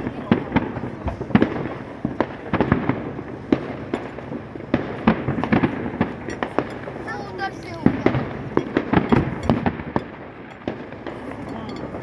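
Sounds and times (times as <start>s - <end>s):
fireworks bangs and pops: 0.0s - 12.0s
rumble of explosions: 0.0s - 12.0s.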